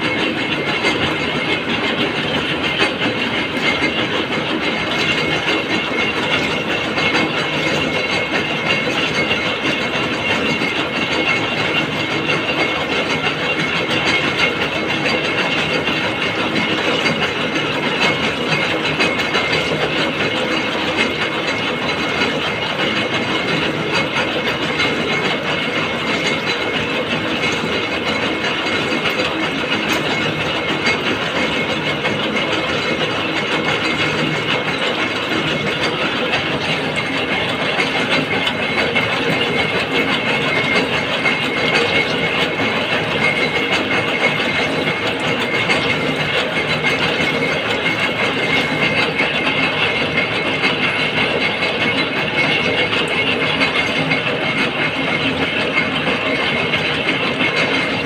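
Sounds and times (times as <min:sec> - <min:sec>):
machine clatter with high whine: 0:00.0 - 0:58.0.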